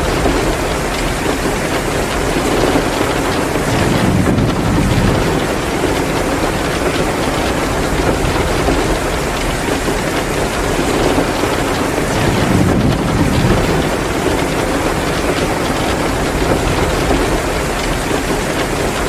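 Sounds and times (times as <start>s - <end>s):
heavy rain: 0.0s - 19.0s
wood fire crackling: 0.0s - 19.0s.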